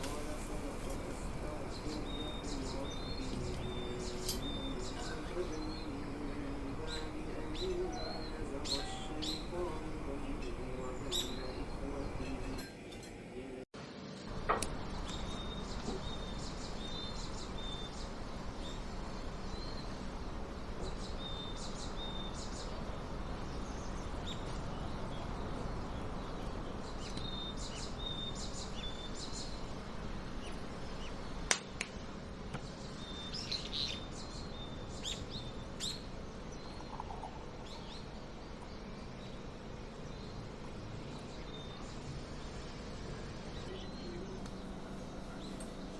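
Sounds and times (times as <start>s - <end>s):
small birds chirping: 0.0s - 12.8s, 13.4s - 45.9s
steady background hiss: 0.0s - 45.9s.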